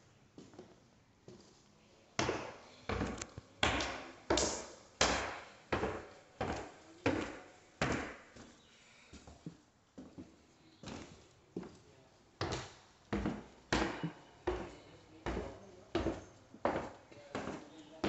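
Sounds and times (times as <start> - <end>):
footsteps on bare floor: 2.2 - 11.8, 12.4 - 18.0.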